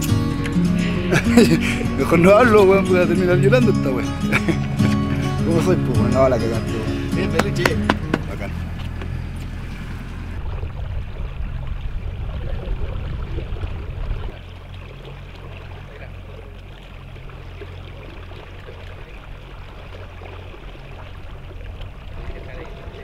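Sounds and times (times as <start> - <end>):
water lapping against boat hull: 0.0 - 23.0.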